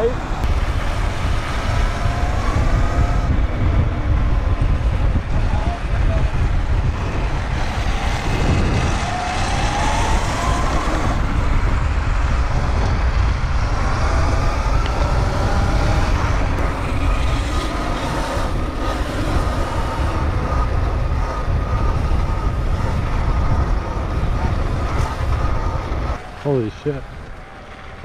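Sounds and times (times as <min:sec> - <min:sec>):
low wind rumble: 0:00.0 - 0:28.0.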